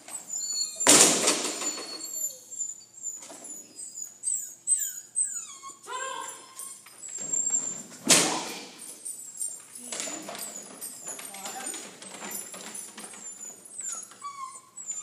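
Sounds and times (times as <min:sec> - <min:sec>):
dog whining: 0:00.0 - 0:11.5, 0:12.4 - 0:15.0.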